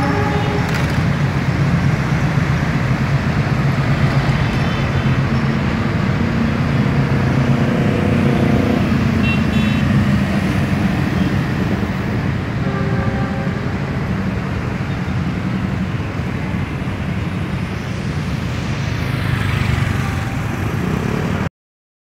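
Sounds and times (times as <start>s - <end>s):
motorcycle and minibus traffic: 0.0s - 21.5s.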